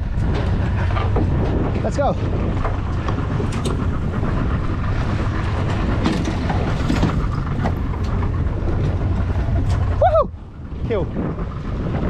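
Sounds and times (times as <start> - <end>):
boat engine running: 0.0 - 12.0
wind and water noise: 0.0 - 12.0.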